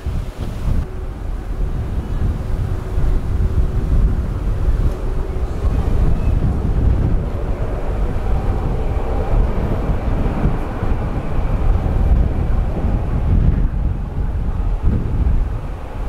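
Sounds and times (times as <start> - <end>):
jet engines at takeoff thrust: 0.0 - 16.0.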